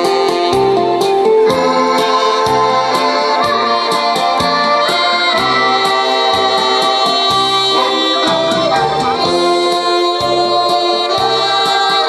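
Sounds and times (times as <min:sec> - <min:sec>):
backing track drum beat: 0:00.0 - 0:12.0
saxophone playing slow melody: 0:00.0 - 0:12.0.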